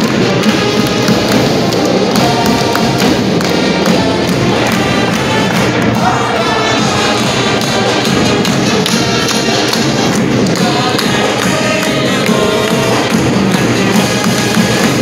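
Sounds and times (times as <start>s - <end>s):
brass band playing: 0.0s - 15.0s
drums: 0.0s - 15.0s.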